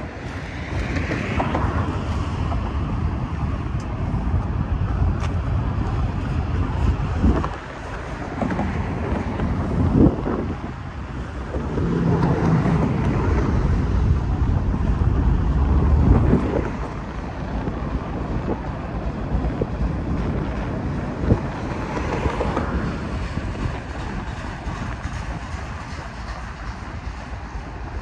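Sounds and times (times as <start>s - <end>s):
freight train rumbling past: 0.0s - 28.0s
wind buffeting microphone: 0.0s - 28.0s.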